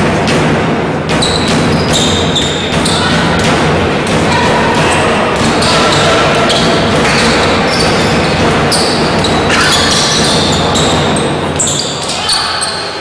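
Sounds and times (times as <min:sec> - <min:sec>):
echoing gym noise: 0:00.0 - 0:13.0
basketball bouncing on hardwood: 0:00.3 - 0:11.7.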